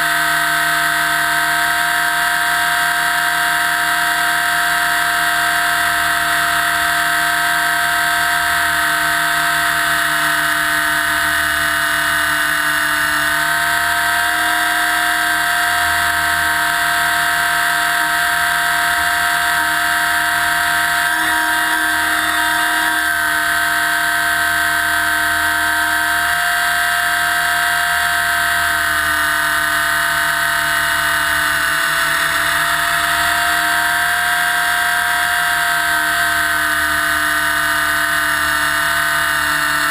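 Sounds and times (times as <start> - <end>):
rc helicopter motor whining: 0.0 - 39.9.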